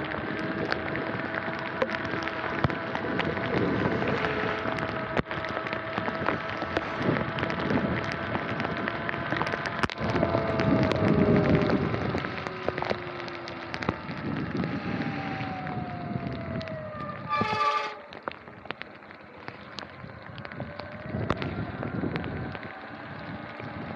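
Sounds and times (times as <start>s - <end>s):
rain spattering on camera: 0.0s - 23.9s.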